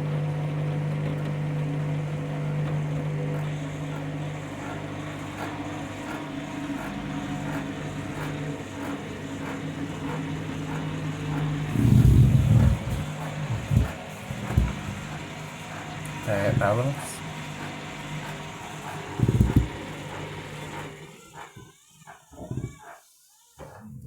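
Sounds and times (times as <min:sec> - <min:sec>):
washing machine motor humming: 0:00.0 - 0:24.0.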